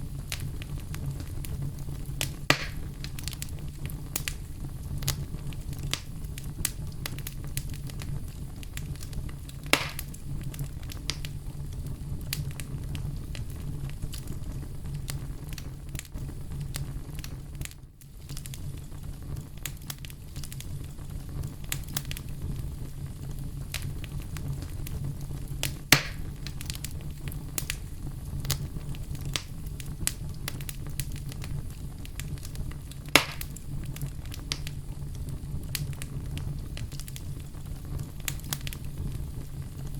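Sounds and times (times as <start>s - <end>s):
burning wood crackling: 0.0s - 39.9s
fire flames rumbling: 0.0s - 39.9s
fire pops: 0.0s - 39.9s.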